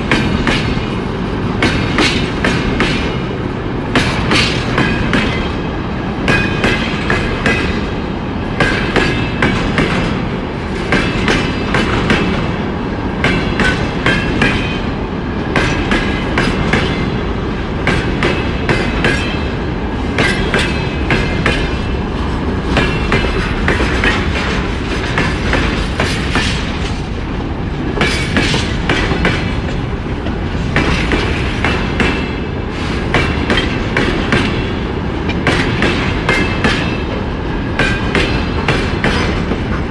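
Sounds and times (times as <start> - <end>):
train wagons rumbling: 0.0 - 39.9
wheels clickety-clack on rail joints: 0.0 - 39.9.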